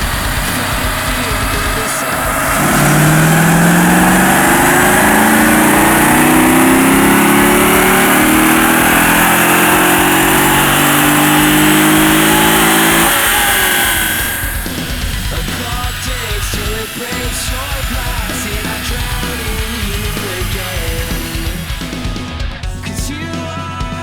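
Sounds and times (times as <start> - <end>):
car engine revving high: 0.0 - 22.5.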